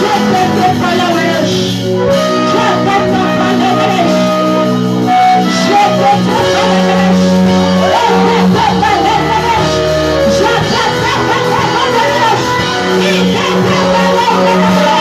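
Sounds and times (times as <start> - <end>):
live band worship music: 0.0 - 15.0
person singing: 0.0 - 15.0.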